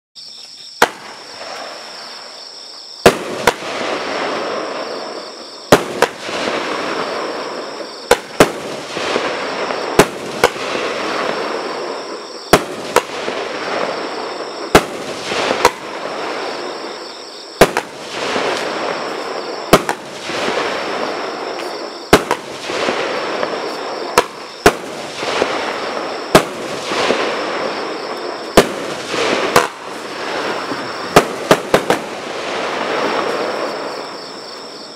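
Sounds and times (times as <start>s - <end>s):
firework cracks: 0.8s - 2.0s, 3.0s - 34.2s
hissing of burning firework sparks: 3.0s - 34.2s.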